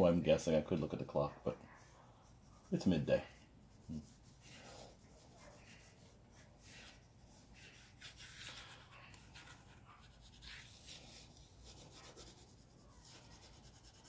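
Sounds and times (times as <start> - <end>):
pencil scratching on paper: 1.8 - 14.0.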